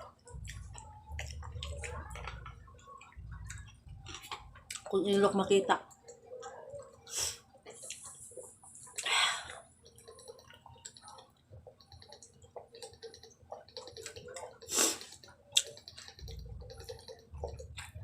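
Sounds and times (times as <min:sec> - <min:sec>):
wet chewing and smacking: 0:00.0 - 0:05.2, 0:05.8 - 0:18.0.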